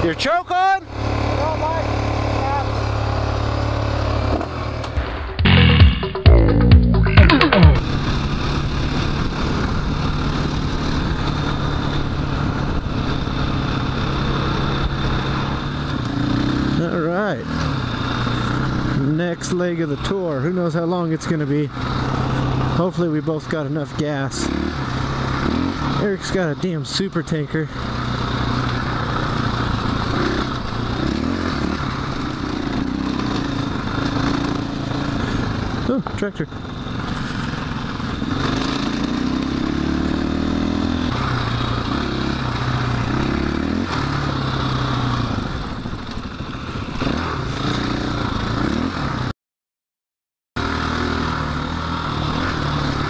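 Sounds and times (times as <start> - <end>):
motorcycle engine cruising: 0.0 - 49.3, 50.6 - 53.0.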